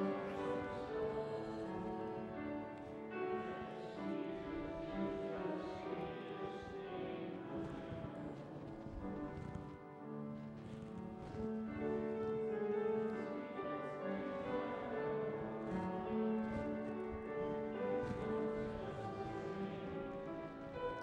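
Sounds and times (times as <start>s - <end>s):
slow keyboard church music: 0.0s - 21.0s.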